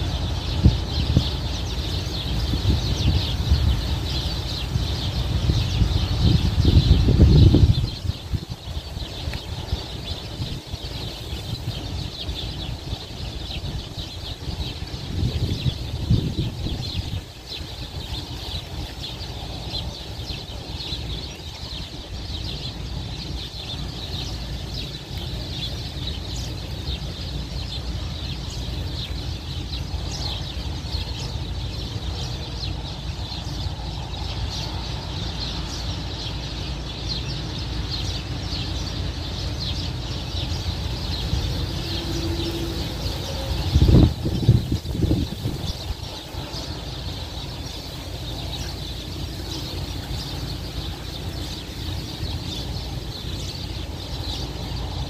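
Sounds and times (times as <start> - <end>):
small birds chirping: 0.0 - 55.0
strong wind buffeting microphone: 0.0 - 55.0.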